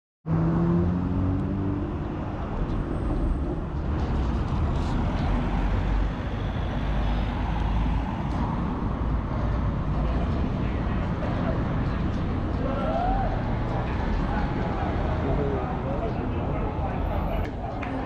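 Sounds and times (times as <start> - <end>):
low traffic rumble: 0.3 - 18.0.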